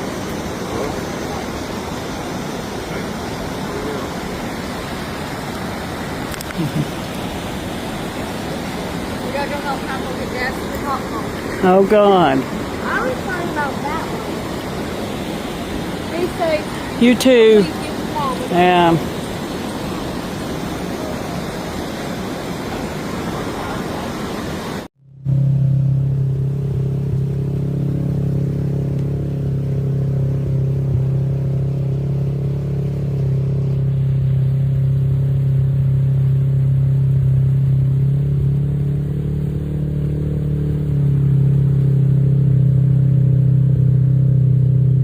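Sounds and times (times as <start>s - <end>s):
floodwater rushing: 0.0s - 24.9s, 26.6s - 44.8s
low engine hum: 0.0s - 45.0s.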